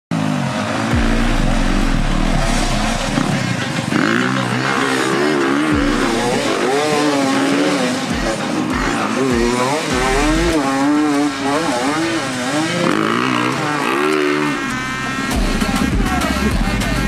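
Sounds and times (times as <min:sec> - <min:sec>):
motorcycle engine running: 0:00.1 - 0:17.0.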